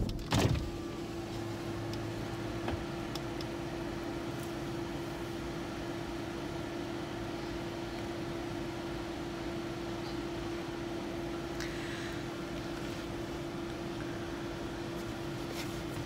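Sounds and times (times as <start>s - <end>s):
car idling with fan droning: 0.0s - 16.0s.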